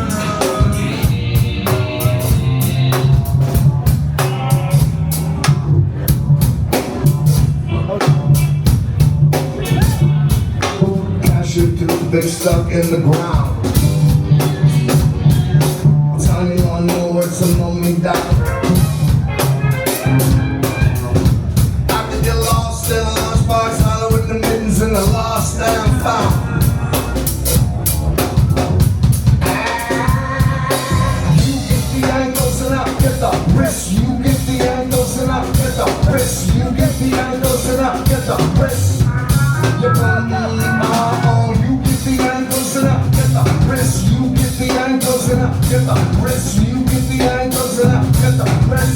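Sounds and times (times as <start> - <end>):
busy drum kit: 0.0 - 48.9
live band playing: 0.0 - 48.9
steady bass line: 0.0 - 48.9.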